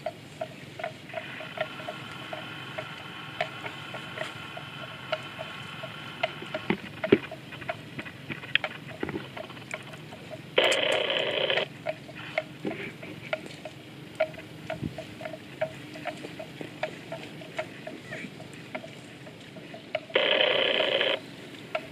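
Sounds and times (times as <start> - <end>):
buffalo chewing grass: 0.0 - 21.9.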